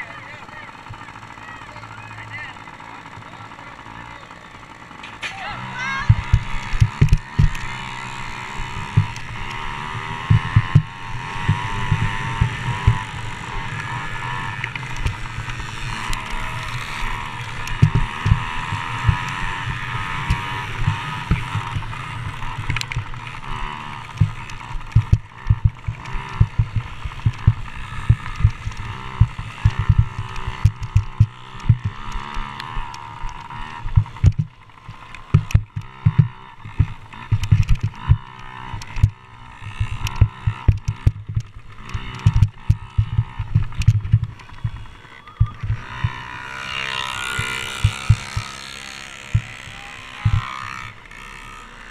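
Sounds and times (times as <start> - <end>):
dirt bike engines racing: 0.0 - 51.9.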